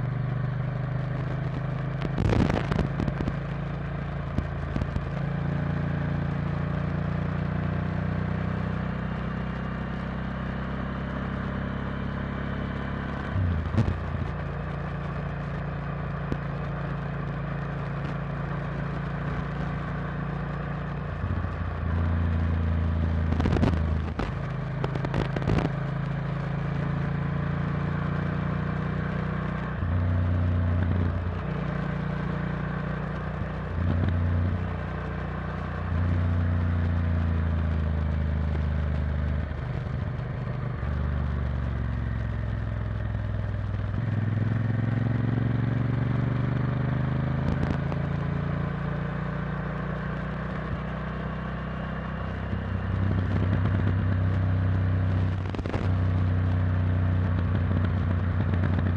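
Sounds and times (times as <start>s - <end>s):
motorcycle engine running: 0.0s - 58.9s
wind and road noise: 0.0s - 58.9s.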